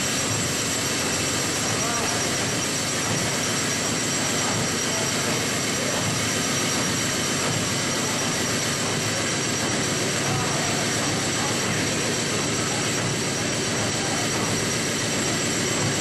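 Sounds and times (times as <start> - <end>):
steam engine running: 0.0 - 16.0
thin high whines: 0.7 - 16.0.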